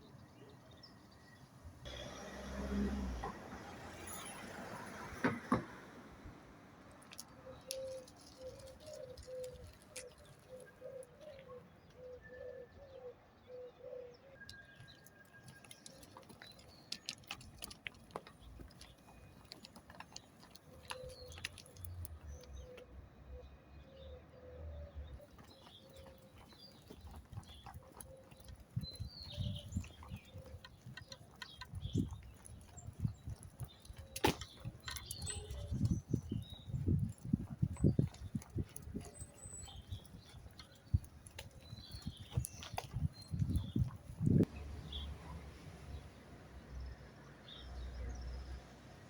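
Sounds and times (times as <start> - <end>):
small birds chirping: 6.9 - 48.6.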